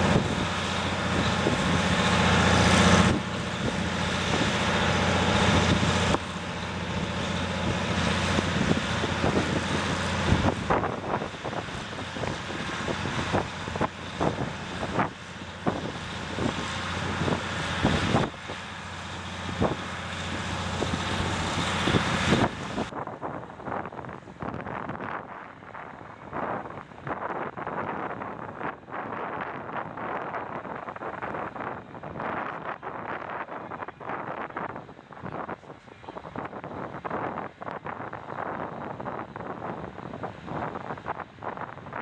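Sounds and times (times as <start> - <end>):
engine humming: 0.0 - 42.0
wind on microphone: 0.0 - 42.0.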